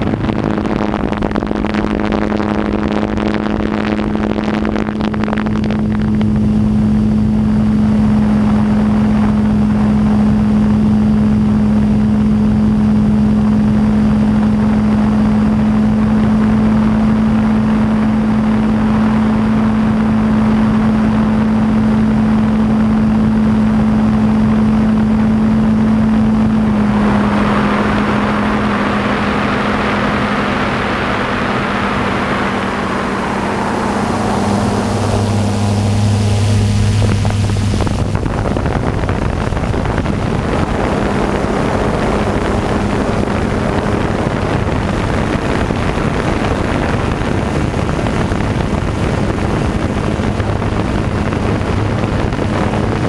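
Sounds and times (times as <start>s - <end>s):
drone motors humming: 0.0s - 53.0s
wind buffeting microphone: 0.0s - 53.0s.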